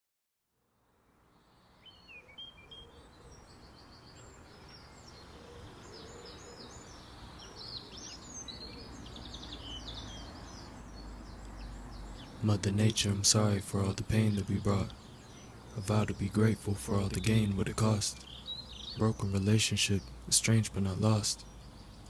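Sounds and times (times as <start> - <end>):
background hiss: 0.8 - 22.0
birds chirping and trilling: 1.2 - 22.0.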